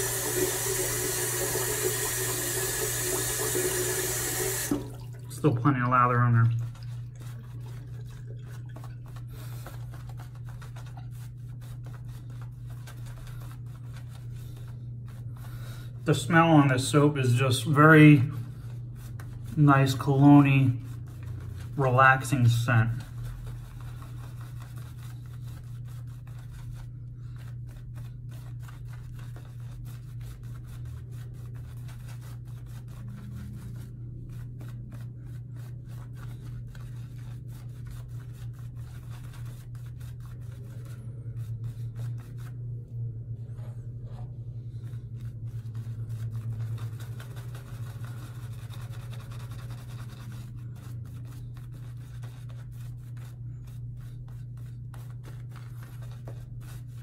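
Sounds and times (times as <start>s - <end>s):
shaving brush scrubbing stubble: 0.0s - 57.0s
steady low hum: 4.8s - 57.0s.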